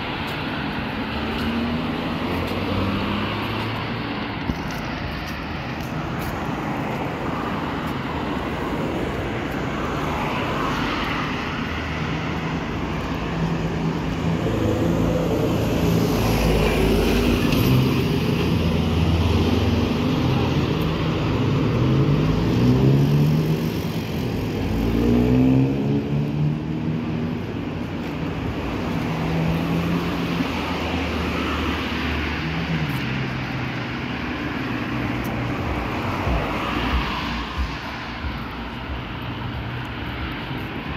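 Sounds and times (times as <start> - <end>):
cars passing: 0.0 - 40.9
vehicles accelerating: 0.0 - 40.9.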